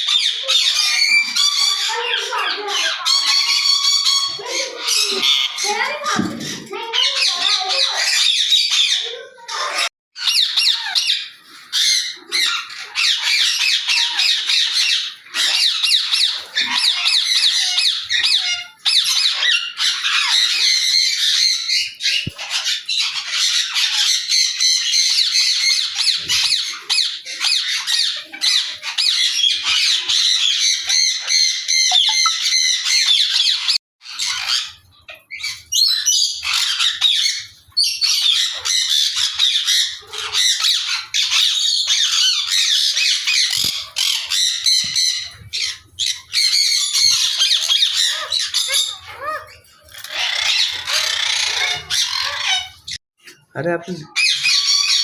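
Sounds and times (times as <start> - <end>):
parrots squawking and chattering: 0.0 - 55.0.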